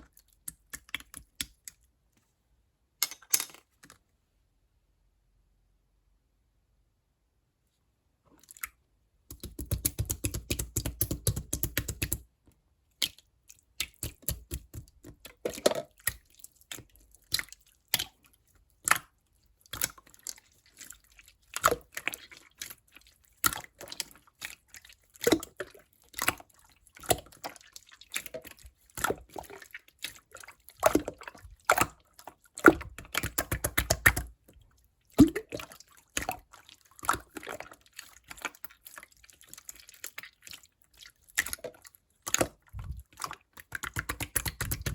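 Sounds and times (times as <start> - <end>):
slime squishing: 8.3 - 12.3, 12.9 - 44.9.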